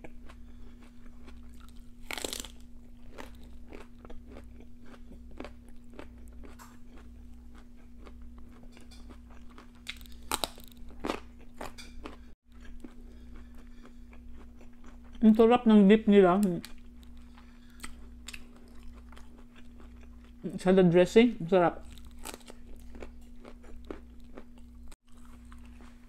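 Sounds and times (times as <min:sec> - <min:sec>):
chewing raw broccoli crunches: 0:00.0 - 0:15.2, 0:16.4 - 0:20.4, 0:21.8 - 0:26.0
faint steady hum: 0:00.0 - 0:26.0.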